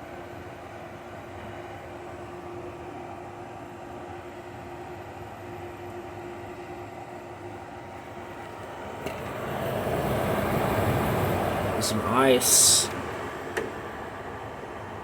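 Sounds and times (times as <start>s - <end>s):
compressor hum: 0.0s - 15.0s
dehumidifier air rush: 0.0s - 15.0s.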